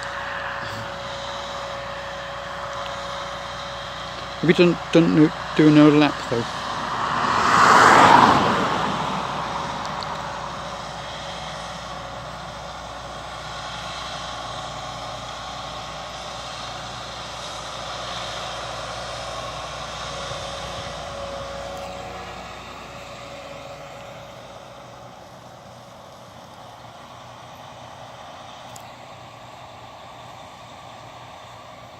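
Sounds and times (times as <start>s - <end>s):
combine harvester droning: 0.0s - 31.9s.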